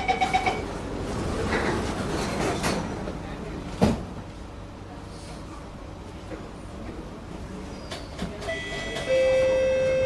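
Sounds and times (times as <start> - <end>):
train carriage rumble and hum: 0.0 - 10.0.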